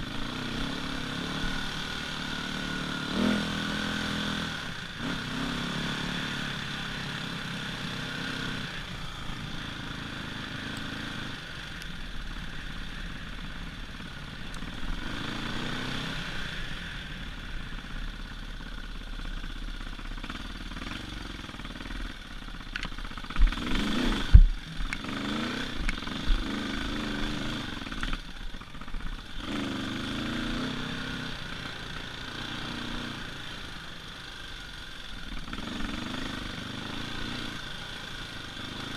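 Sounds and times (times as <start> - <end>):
dirt bike engine revving: 0.0 - 17.4, 20.1 - 22.3, 23.1 - 38.9.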